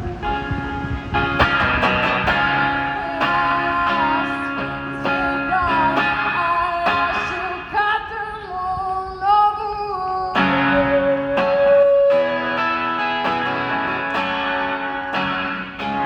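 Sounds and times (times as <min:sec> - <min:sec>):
guitar strumming: 0:00.0 - 0:08.8, 0:10.2 - 0:16.0.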